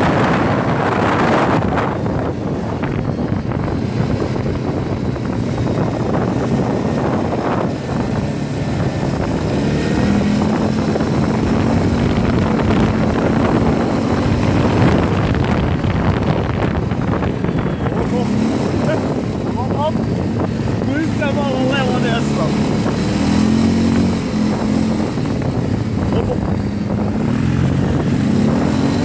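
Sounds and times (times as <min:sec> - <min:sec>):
quad bike engine running: 0:00.0 - 0:29.0
wind buffeting microphone: 0:00.0 - 0:29.0.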